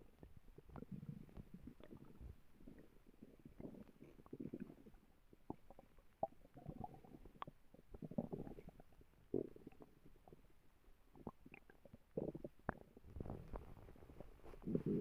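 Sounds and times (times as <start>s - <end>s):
stomach growling: 0.0s - 10.5s, 11.1s - 15.0s.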